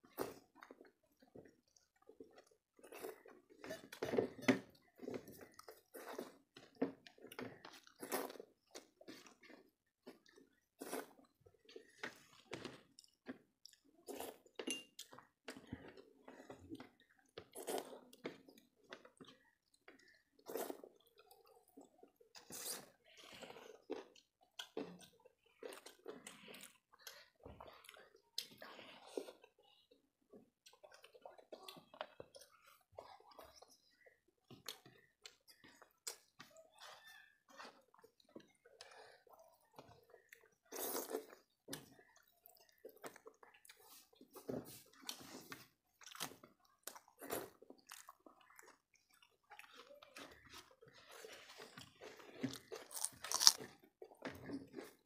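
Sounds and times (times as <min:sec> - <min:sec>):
chewing and mouth sounds: 0:00.0 - 0:55.0.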